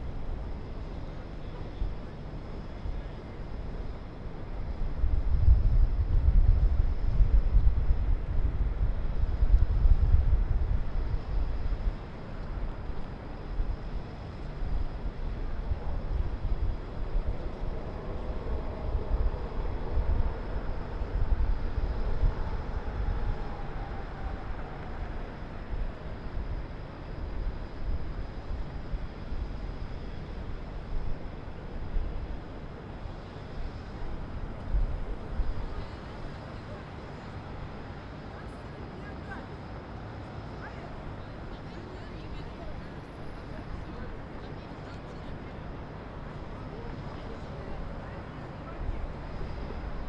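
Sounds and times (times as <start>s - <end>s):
distant city traffic rumble: 0.0s - 50.0s.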